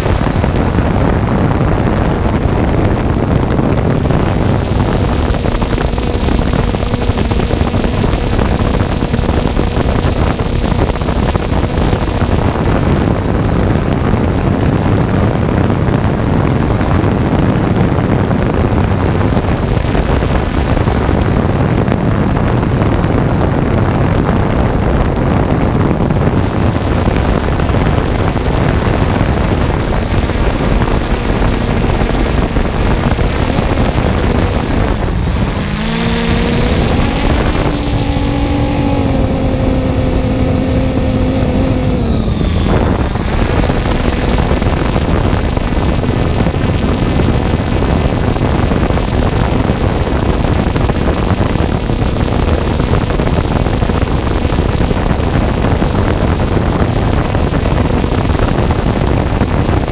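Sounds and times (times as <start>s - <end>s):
drone motors and propellers humming: 0.0s - 59.9s
rush of air noise: 0.0s - 59.9s.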